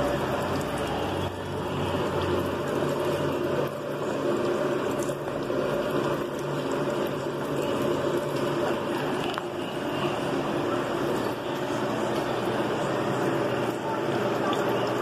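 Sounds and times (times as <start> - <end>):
fluid pouring into drain pan: 0.0 - 15.0.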